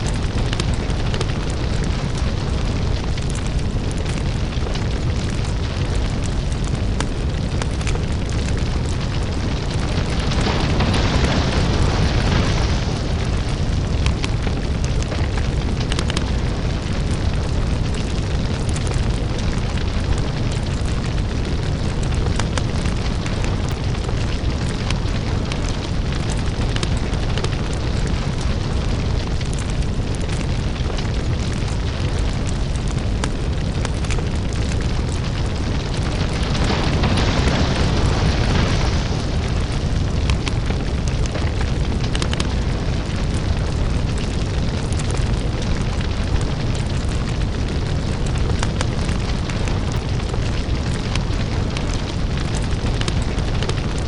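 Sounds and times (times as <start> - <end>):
deep steady rumble: 0.0 - 54.0
fire crackles and pops: 0.0 - 54.0.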